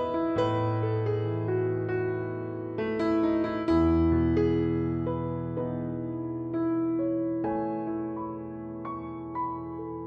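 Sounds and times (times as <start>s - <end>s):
soft piano melody: 0.0s - 10.0s.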